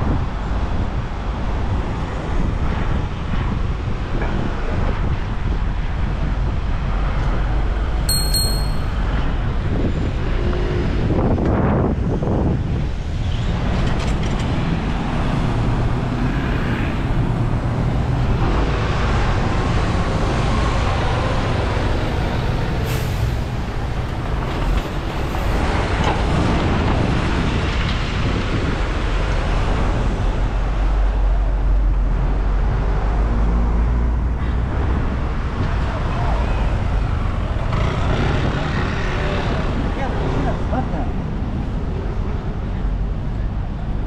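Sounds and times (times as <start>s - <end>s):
vehicles passing on street: 0.0s - 44.0s.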